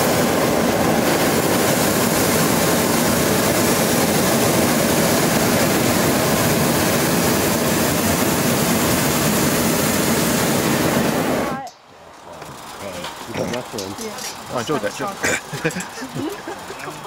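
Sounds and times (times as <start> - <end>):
propane burner firing: 0.0 - 17.0.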